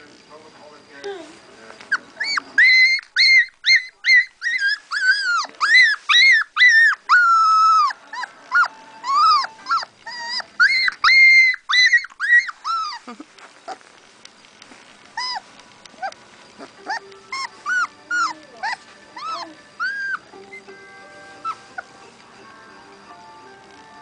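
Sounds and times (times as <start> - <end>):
puppy whining and yelping: 1.9 - 14.0, 14.7 - 22.1.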